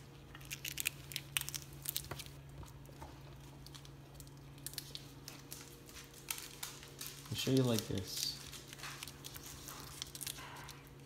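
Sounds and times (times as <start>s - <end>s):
low steady hum: 0.0s - 11.0s
plastic candy wrapper crinkling: 0.0s - 11.0s.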